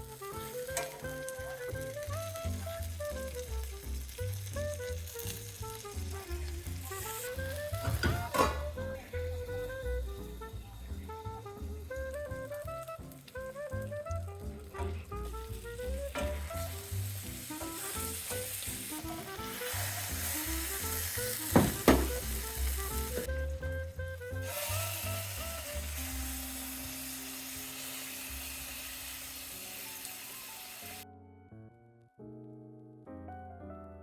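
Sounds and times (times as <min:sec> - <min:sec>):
fish sizzling in a pan: 0:00.0 - 0:31.0.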